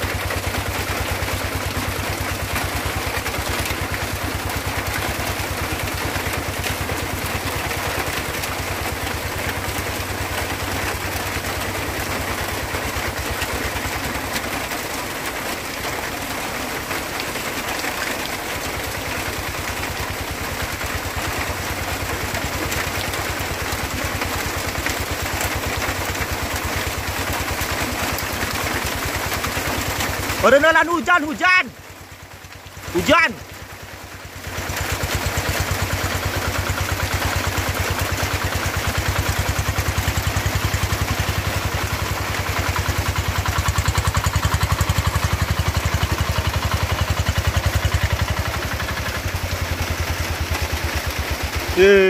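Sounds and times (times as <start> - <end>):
tractor engine chugging: 0.0 - 52.0.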